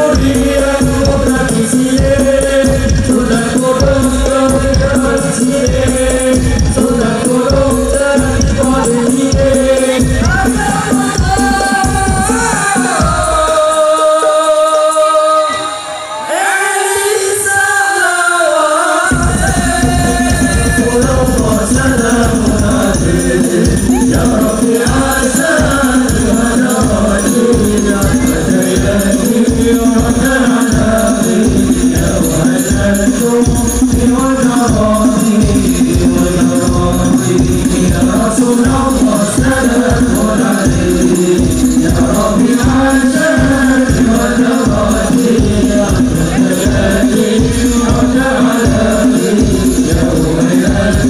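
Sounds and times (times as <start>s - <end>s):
frame drums: 0.0s - 15.0s, 19.1s - 51.0s
group singing: 0.0s - 51.0s.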